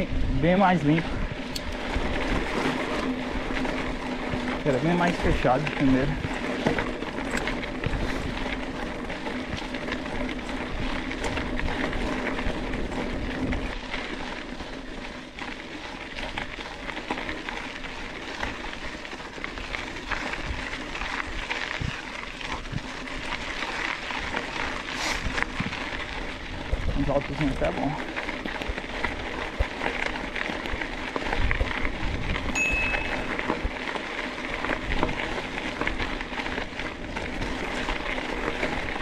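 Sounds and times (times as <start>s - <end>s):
bike clicks and rattles: 0.0s - 39.0s
bike tyres rolling on dirt: 0.0s - 39.0s.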